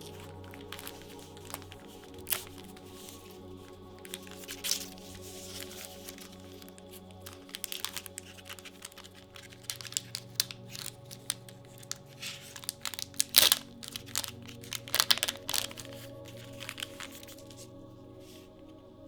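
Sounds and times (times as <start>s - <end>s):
foil wrapper crinkling and tearing: 0.0s - 18.4s
soft background music: 0.0s - 19.0s.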